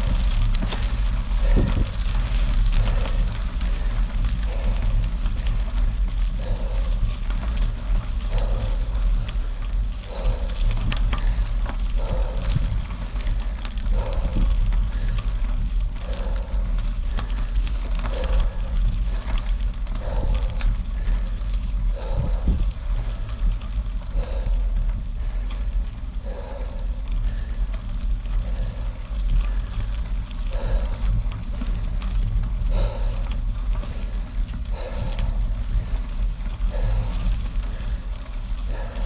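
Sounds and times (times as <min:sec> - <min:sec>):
bicycle tyres crackling on gravel: 0:00.0 - 0:39.0
wind rumbling over microphone: 0:00.0 - 0:39.0.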